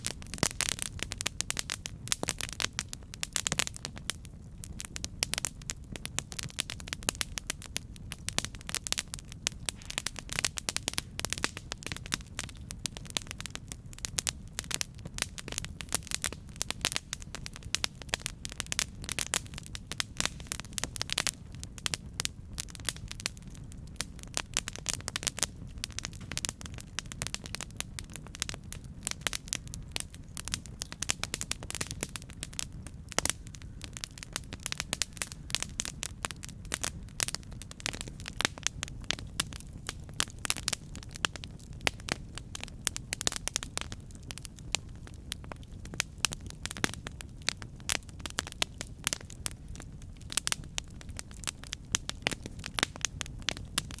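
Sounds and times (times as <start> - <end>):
campfire crackling: 0.0 - 54.0
low rumble of flames: 0.0 - 54.0.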